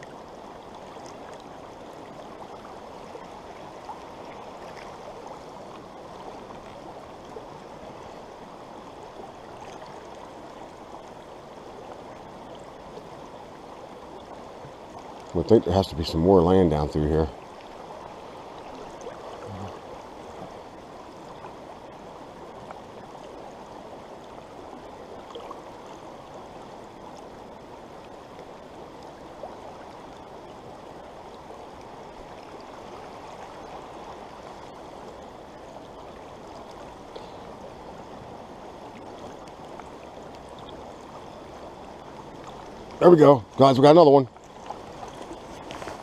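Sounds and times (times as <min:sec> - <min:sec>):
stream running: 0:00.0 - 0:46.0.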